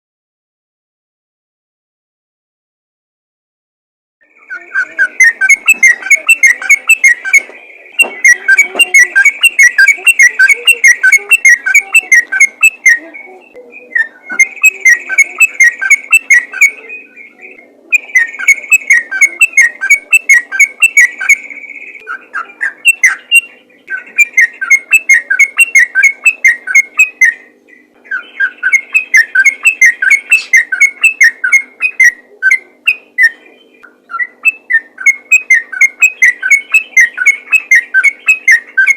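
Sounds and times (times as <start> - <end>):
bird singing chattering whistles: 4.4 - 38.9.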